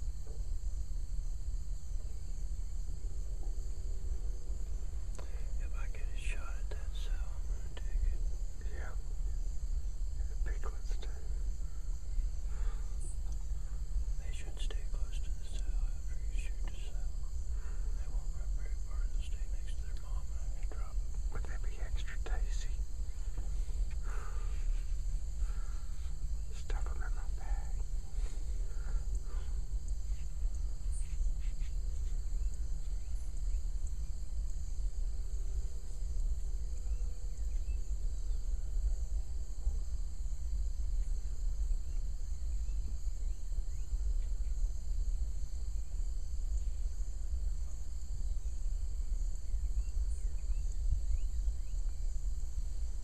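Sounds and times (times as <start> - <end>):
insects buzzing: 0.0 - 53.0
low steady rumble: 0.0 - 53.0.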